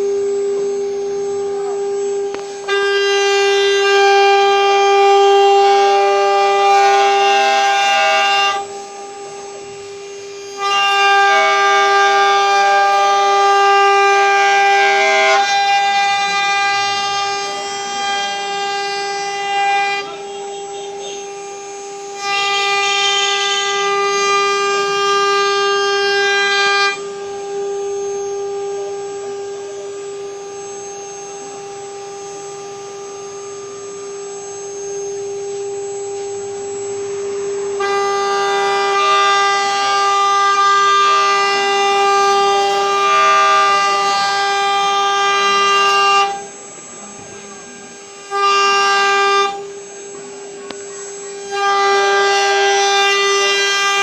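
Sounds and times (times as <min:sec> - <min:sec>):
router spindle high-pitched whine: 0:00.0 - 0:54.0.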